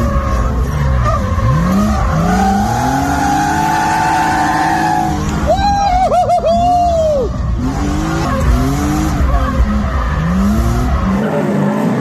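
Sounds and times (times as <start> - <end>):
car engine revving hard: 0.0 - 5.6, 7.3 - 12.0.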